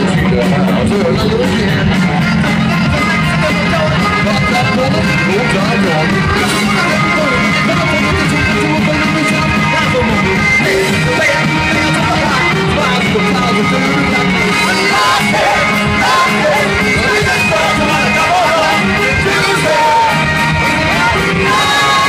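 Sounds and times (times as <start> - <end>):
electric guitar: 0.0 - 22.0
live rock band playing: 0.0 - 22.0
man singing into microphone: 0.0 - 22.0
saxophone: 1.6 - 22.0.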